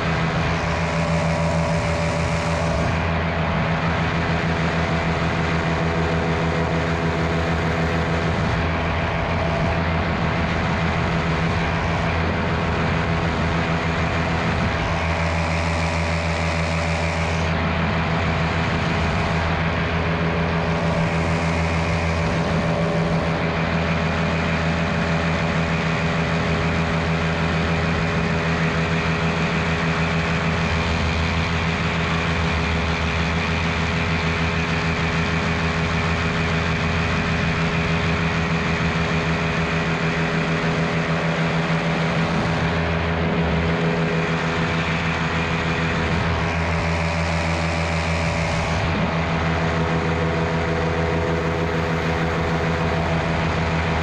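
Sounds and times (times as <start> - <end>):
paramotor engine and propeller running: 0.0 - 54.0.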